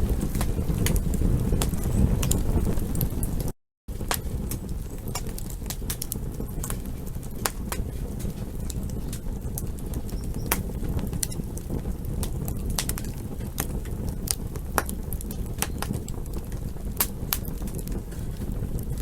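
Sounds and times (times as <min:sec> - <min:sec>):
campfire crackling and popping: 0:00.0 - 0:19.0
fire low rush: 0:00.0 - 0:19.0.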